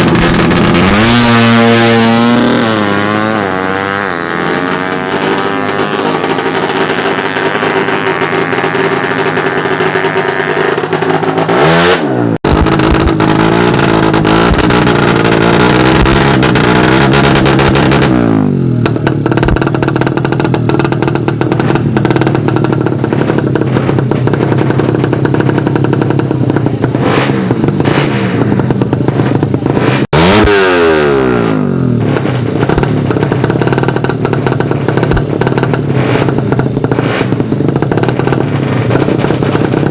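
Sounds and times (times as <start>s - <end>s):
motorbike engines revving hard: 0.0s - 39.9s.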